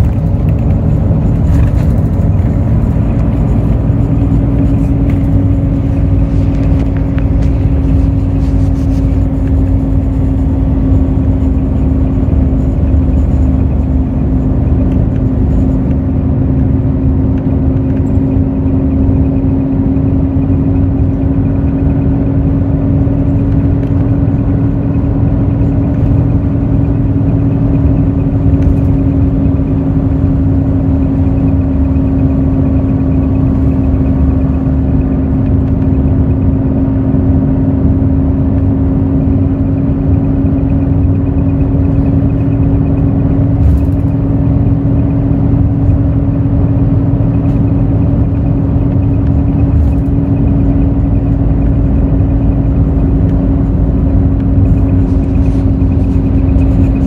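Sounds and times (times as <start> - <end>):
bus diesel engine drone: 0.0 - 57.0
road rumble: 0.0 - 57.0.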